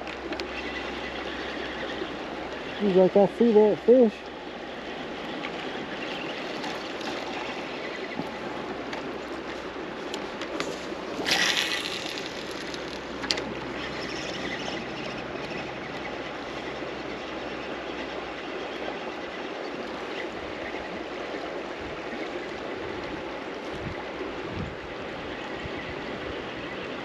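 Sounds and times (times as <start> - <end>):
river current rushing: 0.0 - 27.0.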